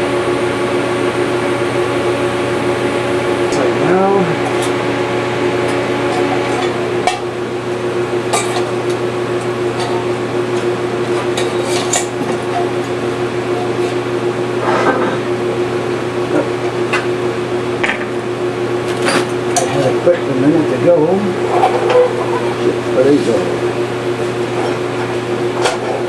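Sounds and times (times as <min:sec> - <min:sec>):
welder electrical hum: 0:00.0 - 0:26.0.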